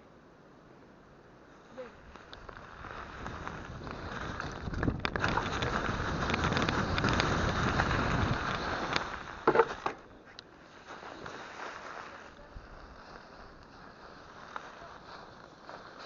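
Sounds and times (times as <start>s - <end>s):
bike tyres and wind rushing: 1.4s - 16.0s.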